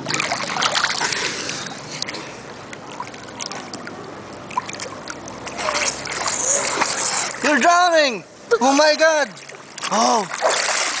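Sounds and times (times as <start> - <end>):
pool water splashing and lapping: 0.0 - 11.0.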